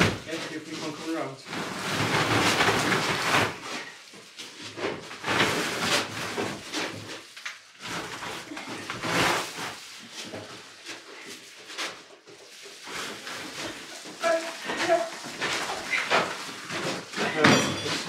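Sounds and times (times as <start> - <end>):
foil bubble insulation crinkling: 0.0 - 18.0.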